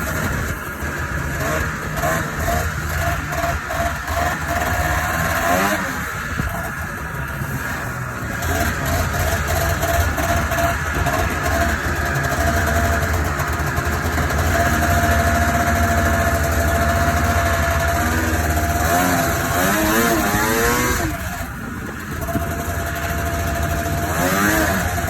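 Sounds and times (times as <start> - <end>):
snowmobile engine revving: 0.0 - 25.0.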